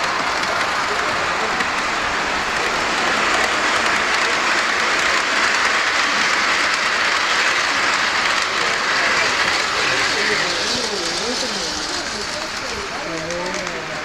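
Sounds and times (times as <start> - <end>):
model train wheels rolling on rails: 0.0 - 14.0.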